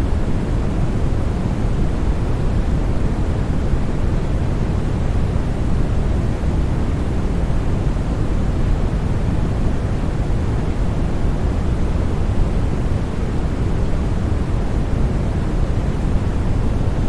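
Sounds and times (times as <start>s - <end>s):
steady white noise hiss: 0.0s - 17.0s.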